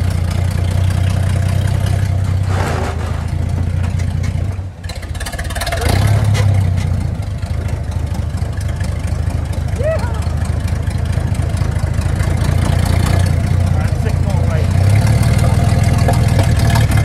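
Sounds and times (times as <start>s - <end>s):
fire engine engine running: 0.0s - 17.0s.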